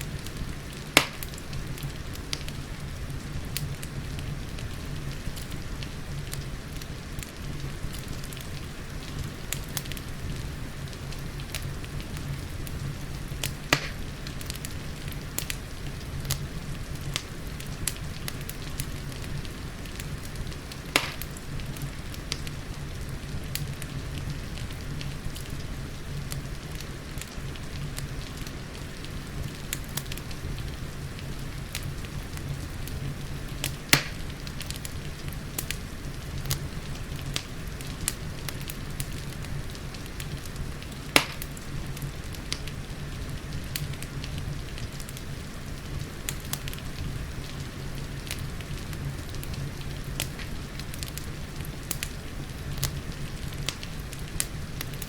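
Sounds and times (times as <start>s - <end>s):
soft rain hiss: 0.0s - 55.0s
wood fire crackling and popping: 0.0s - 55.0s.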